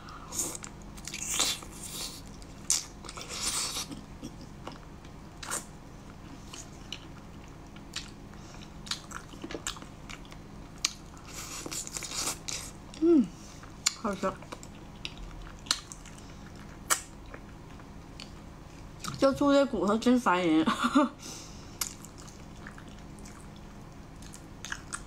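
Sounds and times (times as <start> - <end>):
person chewing crunchy food: 0.3 - 13.0, 13.6 - 19.2, 21.8 - 25.0.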